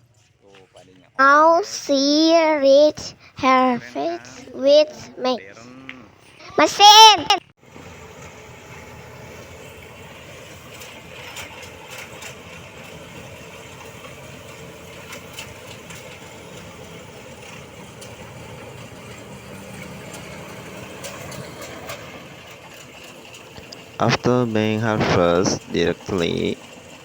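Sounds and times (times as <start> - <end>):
combine harvester engine running: 1.2 - 27.0.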